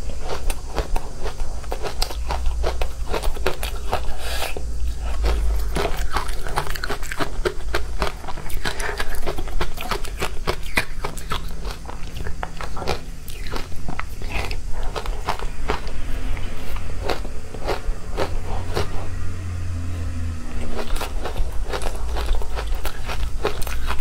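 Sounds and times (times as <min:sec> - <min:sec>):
crunching and chewing ice: 0:00.0 - 0:19.2, 0:20.5 - 0:24.0.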